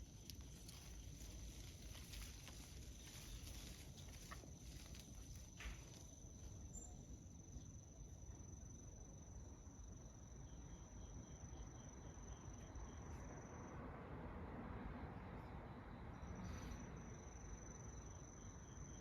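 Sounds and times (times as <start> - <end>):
faint low outdoor rumble: 0.0 - 19.0.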